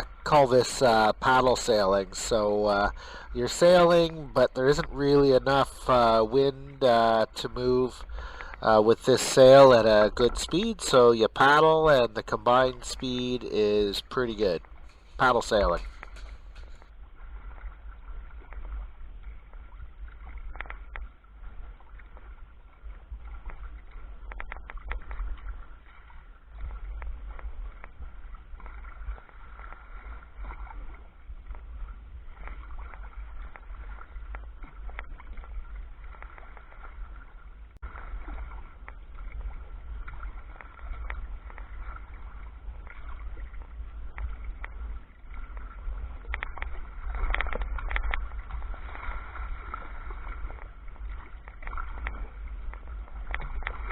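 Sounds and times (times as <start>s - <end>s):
water splashing against hull: 0.0s - 53.9s.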